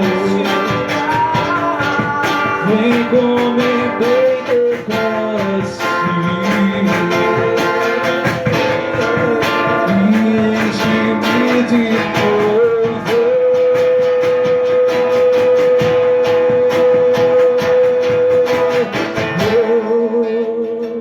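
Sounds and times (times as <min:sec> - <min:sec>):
guitar strumming: 0:00.0 - 0:21.0.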